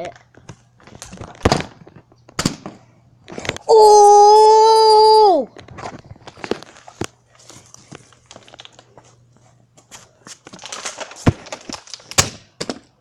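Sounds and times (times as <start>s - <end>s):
rustling and crinkling: 0.0s - 3.7s, 5.4s - 13.0s.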